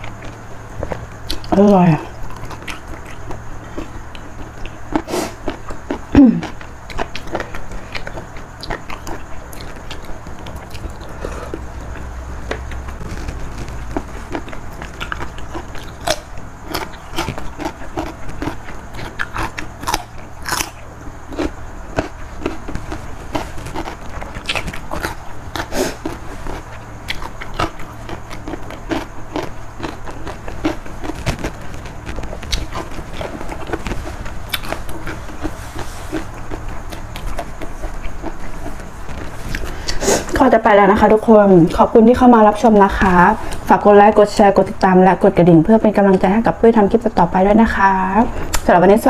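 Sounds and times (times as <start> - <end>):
person chewing food: 0.0 - 40.4.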